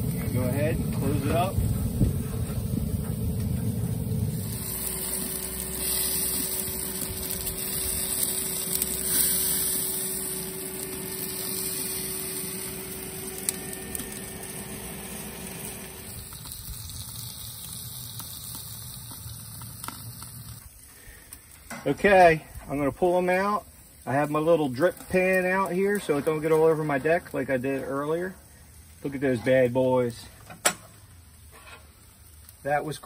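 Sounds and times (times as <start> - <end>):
steaks sizzling: 0.0 - 30.2
low steady hum: 0.0 - 32.8
broiler burner rushing hiss: 0.0 - 33.0.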